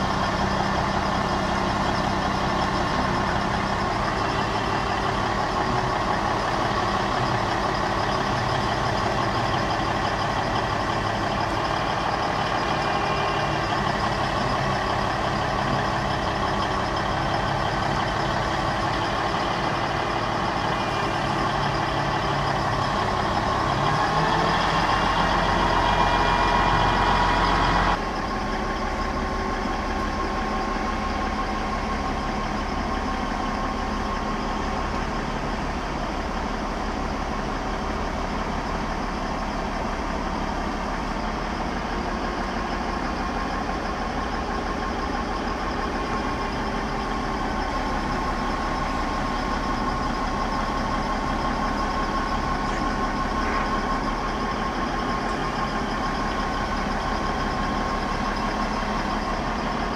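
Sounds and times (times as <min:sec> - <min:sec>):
steady whine: 0:00.0 - 0:59.9
truck engine idling: 0:00.0 - 0:59.9.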